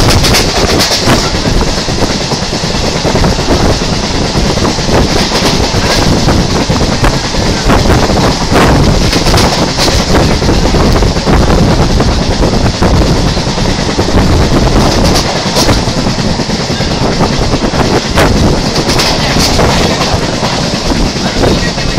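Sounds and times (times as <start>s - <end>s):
train rumbling and thudding: 0.0s - 21.9s
wheels clacking over rail joints: 0.0s - 21.9s.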